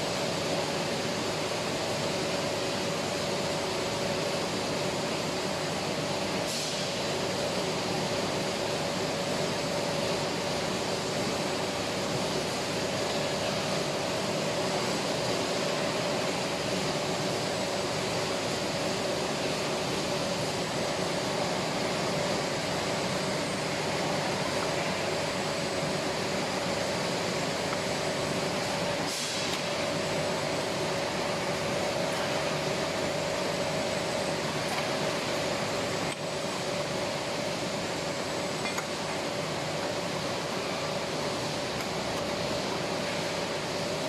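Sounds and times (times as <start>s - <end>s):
machinery humming: 0.0s - 44.0s.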